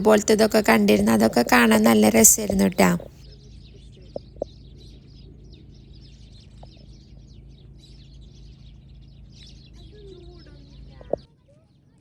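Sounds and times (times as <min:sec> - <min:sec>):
low steady background hum: 0:00.0 - 0:12.0
small birds chirping: 0:00.0 - 0:12.0.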